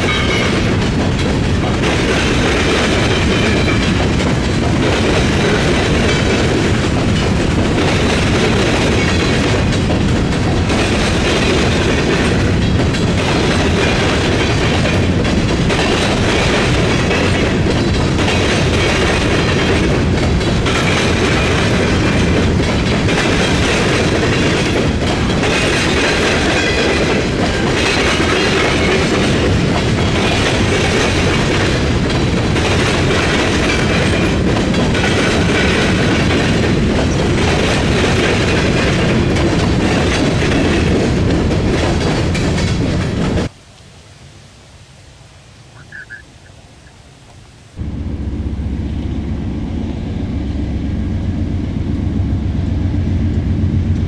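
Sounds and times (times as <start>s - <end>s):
freight train wheels clattering: 0.0s - 43.6s.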